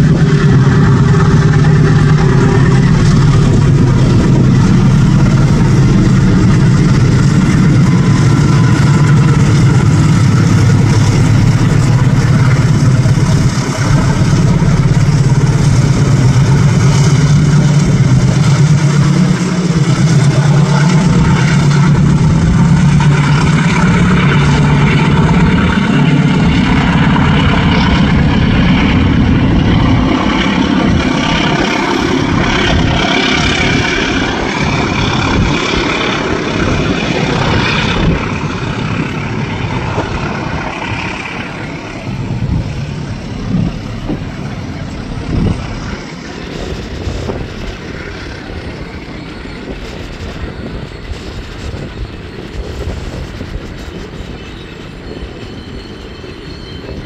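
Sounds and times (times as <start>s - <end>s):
diesel locomotives passing: 0.0s - 57.0s.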